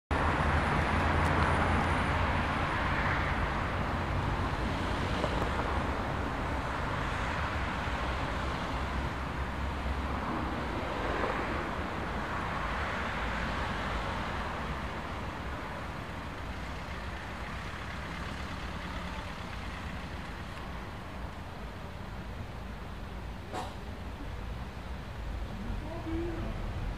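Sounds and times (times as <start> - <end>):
road traffic: 0.1 - 26.9
vehicles passing: 0.1 - 26.9.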